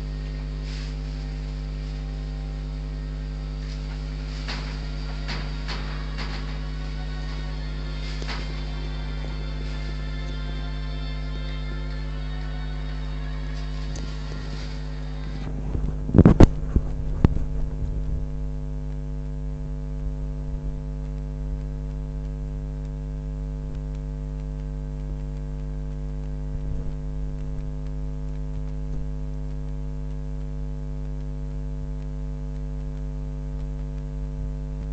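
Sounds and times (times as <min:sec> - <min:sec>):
electrical mains hum: 0:00.0 - 0:34.9.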